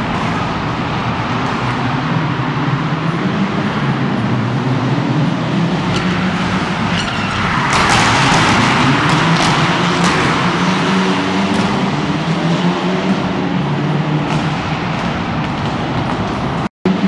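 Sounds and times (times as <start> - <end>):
rally car engine running hard: 0.0 - 17.0
rush of noise: 0.0 - 17.0.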